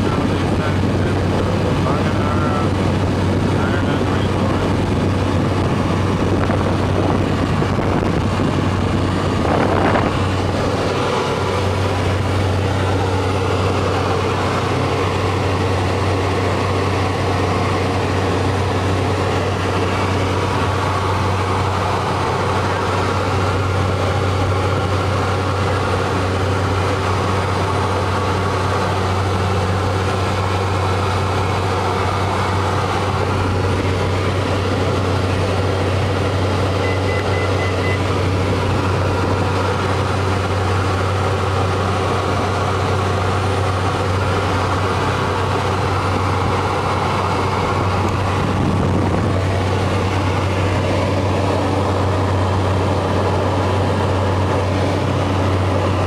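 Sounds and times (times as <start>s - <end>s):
turboprop engine cabin drone: 0.0s - 56.0s.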